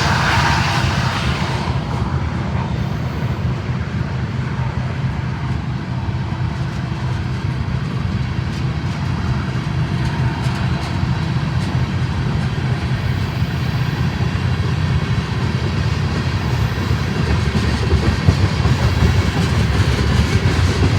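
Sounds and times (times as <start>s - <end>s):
diesel locomotives rumbling: 0.0s - 20.9s.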